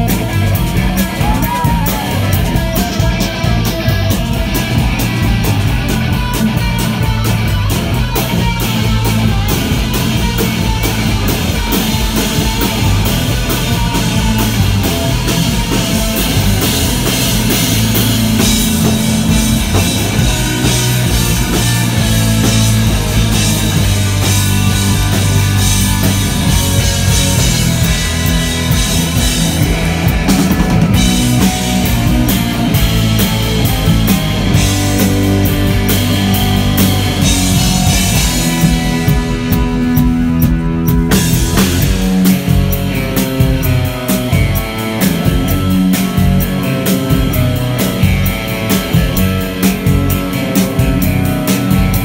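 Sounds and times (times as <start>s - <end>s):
bass guitar: 0.0s - 52.0s
drum kit: 0.0s - 52.0s
electric guitar: 0.0s - 52.0s.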